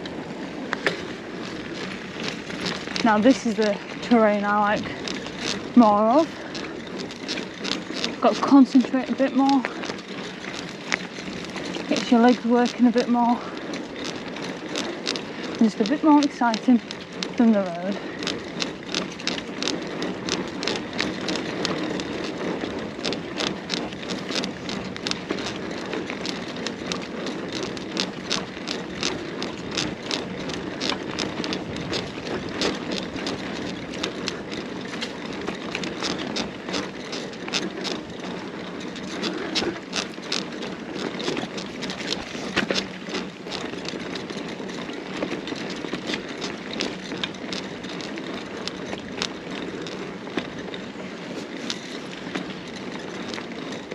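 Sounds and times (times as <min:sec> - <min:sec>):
bike jolt: 0:00.0 - 0:53.9
bike rattling and knocking: 0:00.0 - 0:53.9
tyres rumbling on ground: 0:00.0 - 0:53.9.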